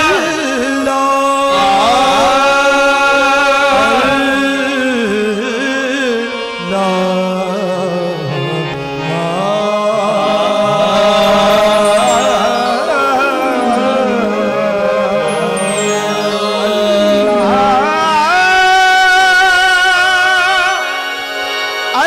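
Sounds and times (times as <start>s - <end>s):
person singing long wavering notes: 0.0s - 21.2s
harmonium: 0.0s - 22.0s.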